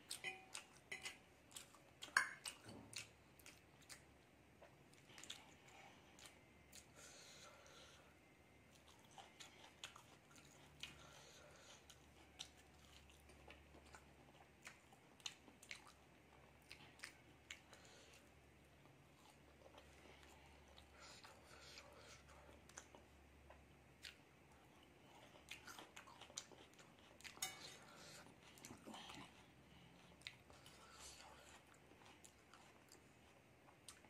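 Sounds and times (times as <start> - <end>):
chewing with wet mouth smacks: 0.0 - 8.0, 8.7 - 34.0.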